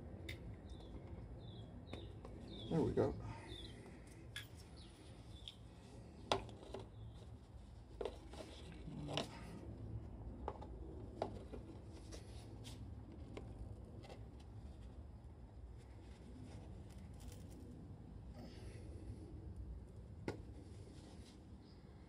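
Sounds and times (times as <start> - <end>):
faint low background rumble: 0.0 - 22.0.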